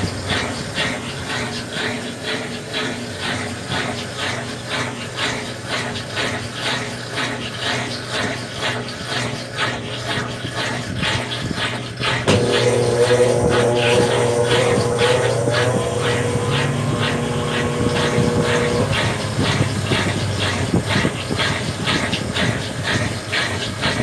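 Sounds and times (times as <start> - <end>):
rhythmic scraping clatter: 0.0 - 24.0
washing machine motor hum: 0.0 - 24.0.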